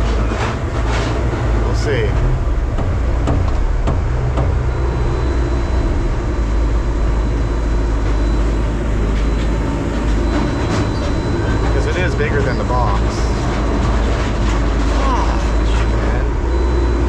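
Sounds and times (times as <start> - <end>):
baler engine droning: 0.0 - 17.0.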